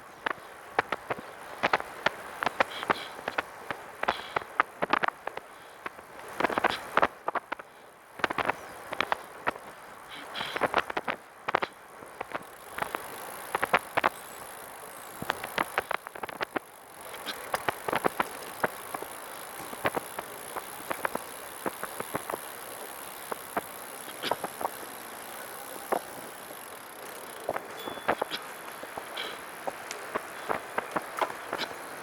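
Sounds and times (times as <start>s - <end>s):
tyre and wind hiss: 0.0s - 32.0s.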